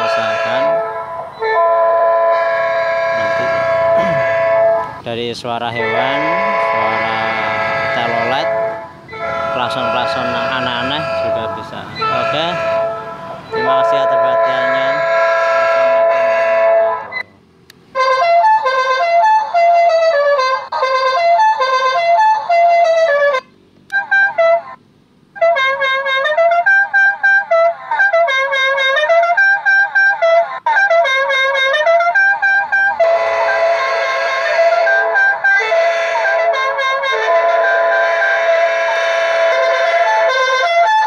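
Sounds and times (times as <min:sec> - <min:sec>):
electronic train horn chord: 0:00.0 - 0:05.0, 0:05.7 - 0:17.3, 0:18.0 - 0:24.8, 0:25.4 - 0:41.0
horn melody of quick notes: 0:00.0 - 0:17.3, 0:18.0 - 0:24.8, 0:25.4 - 0:41.0.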